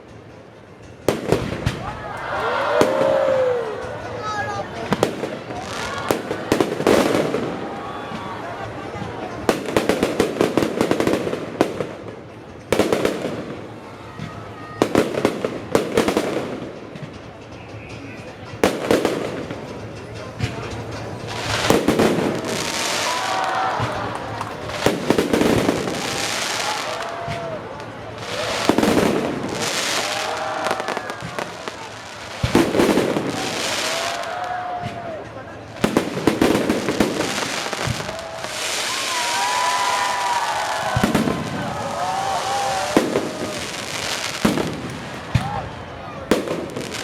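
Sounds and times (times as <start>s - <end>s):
fireworks crackling bangs: 0.0s - 47.0s.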